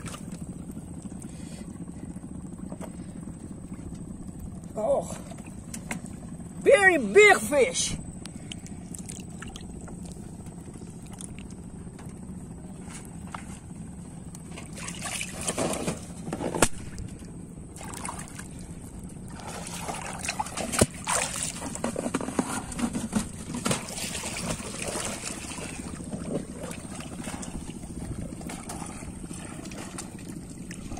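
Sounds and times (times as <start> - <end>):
low steady hum: 0.0 - 30.9
water sloshing and splashing: 0.0 - 30.9.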